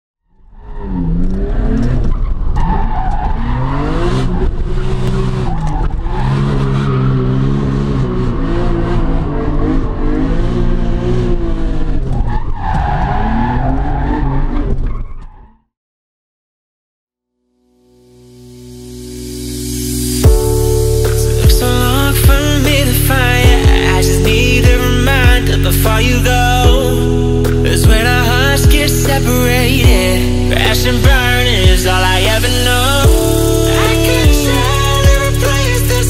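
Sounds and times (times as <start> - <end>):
car engine revving: 0.6 - 14.8, 18.5 - 36.0.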